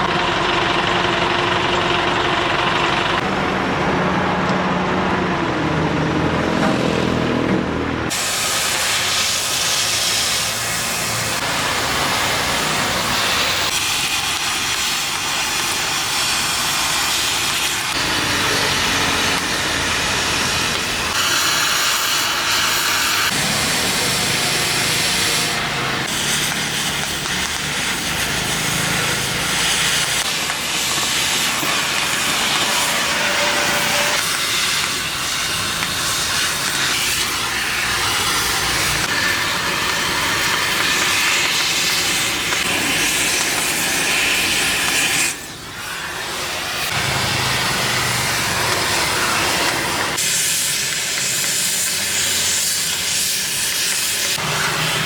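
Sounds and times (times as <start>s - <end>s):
gas cutting torch hissing: 8.0s - 55.0s.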